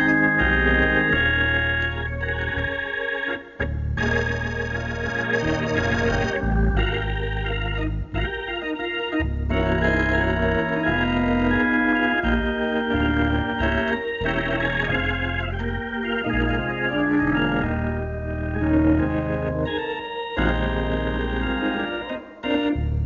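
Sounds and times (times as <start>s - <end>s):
electric organ playing gospel: 0.0s - 23.0s.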